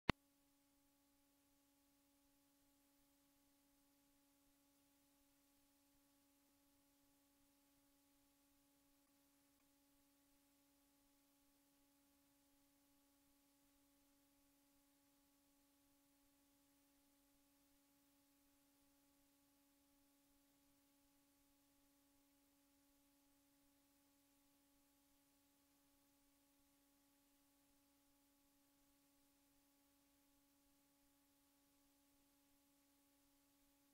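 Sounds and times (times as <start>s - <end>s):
faint steady hum: 0.1s - 33.9s.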